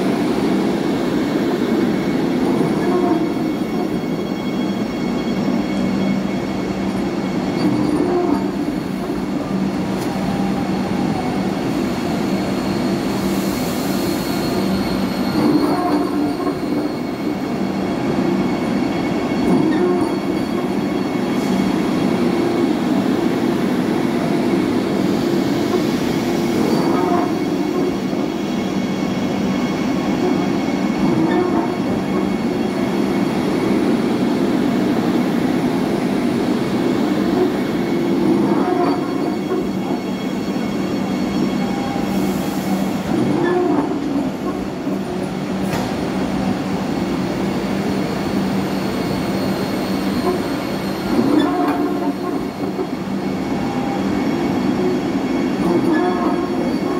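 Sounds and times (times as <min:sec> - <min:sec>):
train rumbling past on rails: 0:00.0 - 0:56.9.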